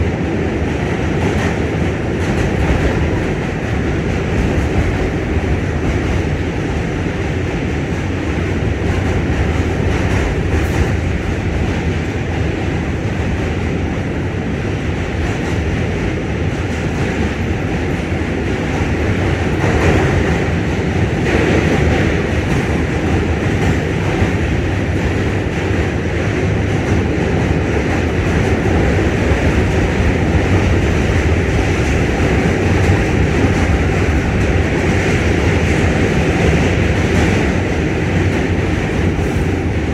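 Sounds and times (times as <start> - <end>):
subway car wheels rumbling on rails: 0.0 - 39.9.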